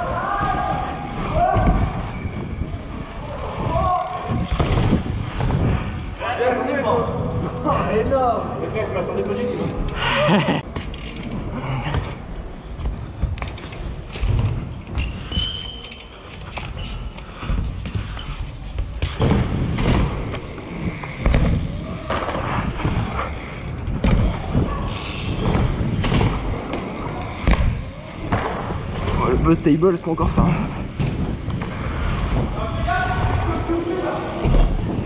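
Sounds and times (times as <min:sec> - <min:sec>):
bikes thudding on wooden ramps: 0:00.0 - 0:08.0, 0:10.7 - 0:35.0
bike tyres rolling on wood: 0:00.0 - 0:35.0.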